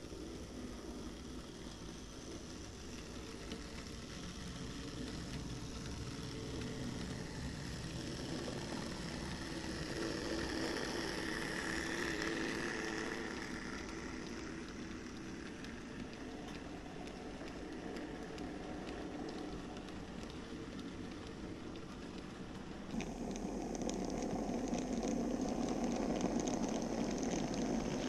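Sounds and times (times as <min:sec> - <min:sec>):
model train whir and rumble: 0:00.0 - 0:28.0.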